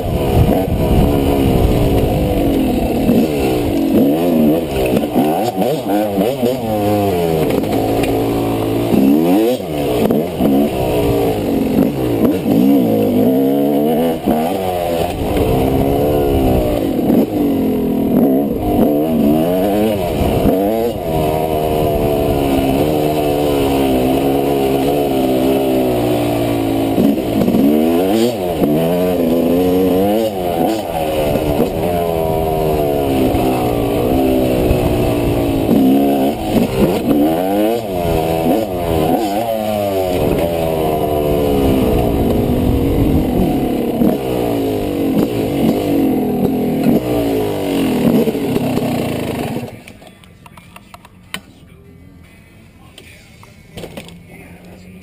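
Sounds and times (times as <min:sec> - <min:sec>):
small engine revving: 0:00.0 - 0:50.0.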